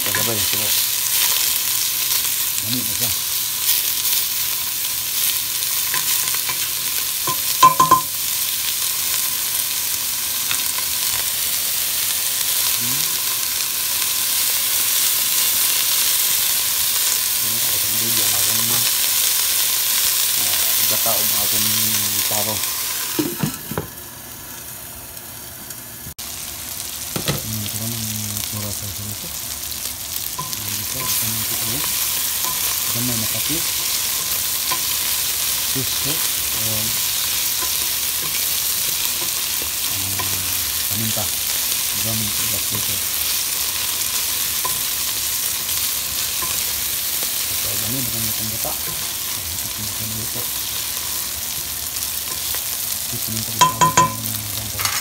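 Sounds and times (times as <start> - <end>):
food sizzling in a pot: 0.0 - 55.0.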